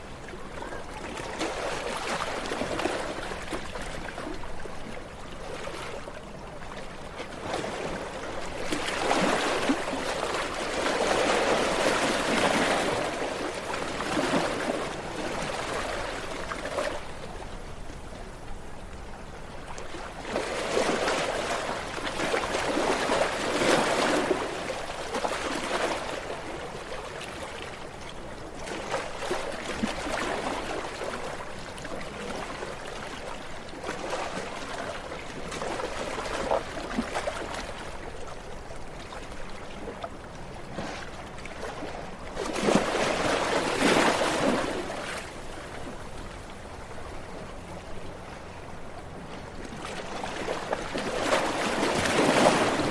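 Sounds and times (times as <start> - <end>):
ocean waves breaking on shore: 0.0 - 52.9.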